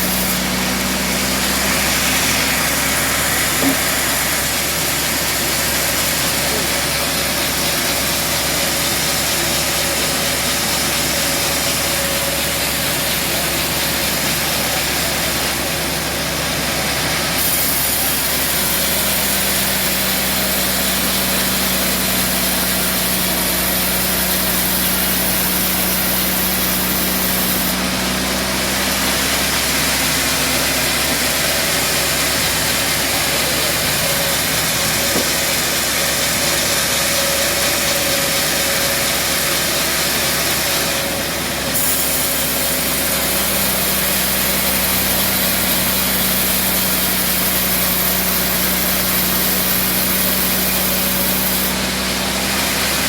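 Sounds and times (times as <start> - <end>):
band sawmill running: 0.0 - 53.0.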